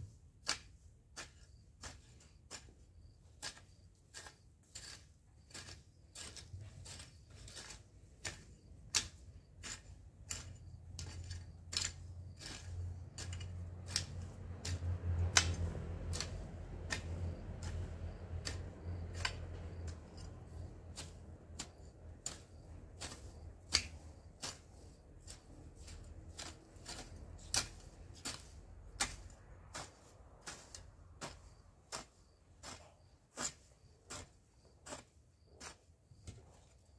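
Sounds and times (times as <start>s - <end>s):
garden tool scraping dry soil: 0.0s - 36.9s.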